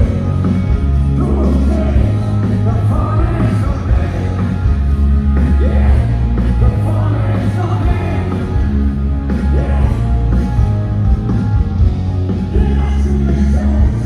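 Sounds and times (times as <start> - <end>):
heavy bass: 0.0 - 14.0
rock music with singer: 0.0 - 14.0.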